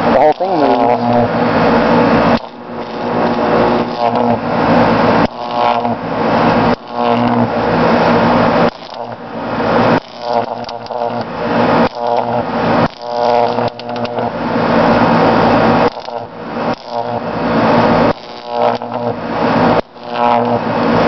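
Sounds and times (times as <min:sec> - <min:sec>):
buzzing electric arc: 0:00.0 - 0:21.0.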